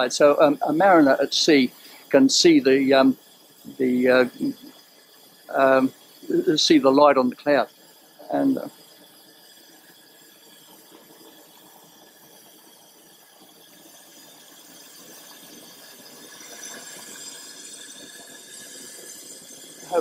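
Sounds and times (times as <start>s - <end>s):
pressure lamp burner hissing: 0.0s - 20.0s.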